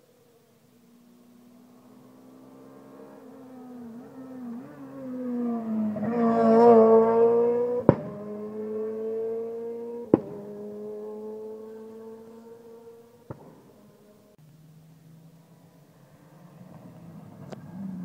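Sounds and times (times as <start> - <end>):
rally car engine passing: 0.8 - 18.0.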